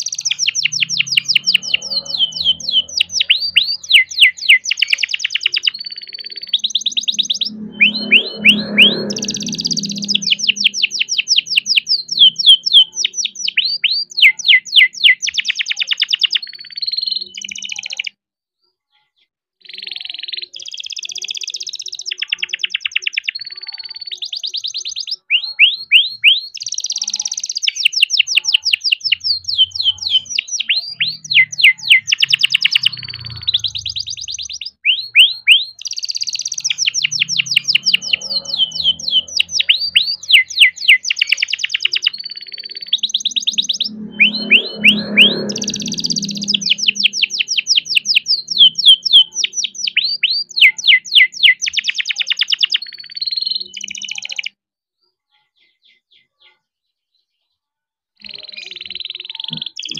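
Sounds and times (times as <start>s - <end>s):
canary singing trills: 0.0s - 18.2s, 19.0s - 54.6s, 58.2s - 59.9s.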